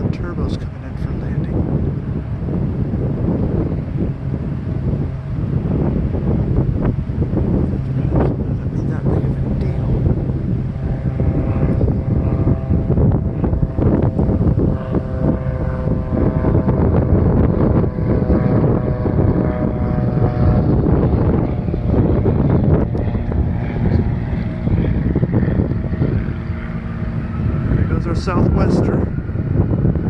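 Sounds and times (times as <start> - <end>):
jet engines whining: 0.0 - 30.0
wind buffeting microphone: 0.0 - 30.0.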